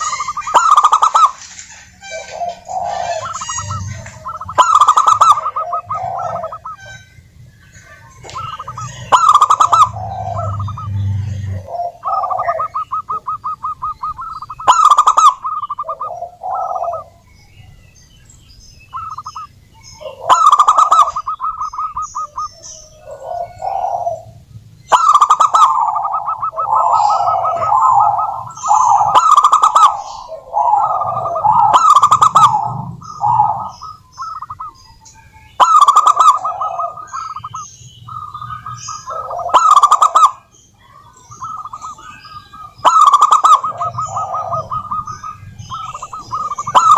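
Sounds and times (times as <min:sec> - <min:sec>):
doves cooing: 0:00.0 - 0:17.9, 0:18.6 - 0:46.9
loud harsh bird call: 0:00.0 - 0:46.9.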